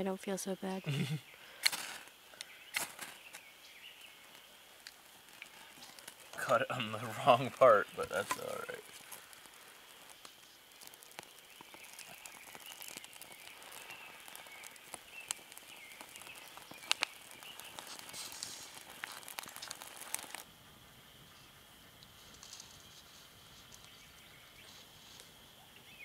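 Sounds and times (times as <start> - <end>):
fire popping: 0.0 - 26.0
small fire crackling: 0.0 - 26.0.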